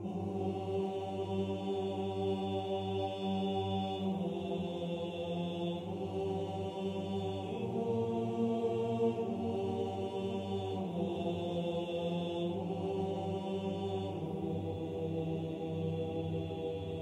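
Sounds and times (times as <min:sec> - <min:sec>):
slow vocal chant: 0:00.0 - 0:17.0.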